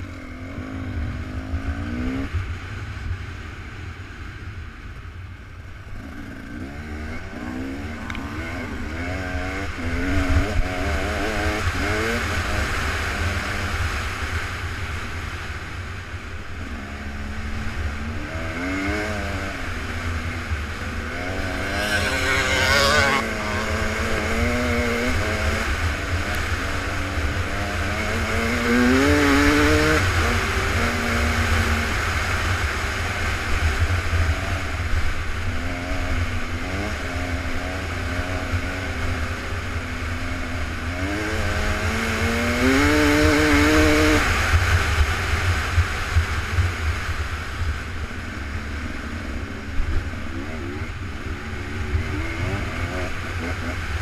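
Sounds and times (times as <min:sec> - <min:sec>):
off-road vehicle engines revving: 0:00.0 - 0:02.8, 0:05.7 - 0:54.0.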